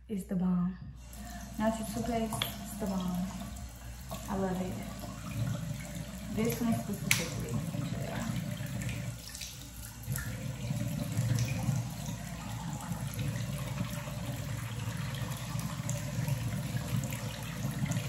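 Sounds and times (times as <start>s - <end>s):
tap water running into sink: 1.0s - 18.0s.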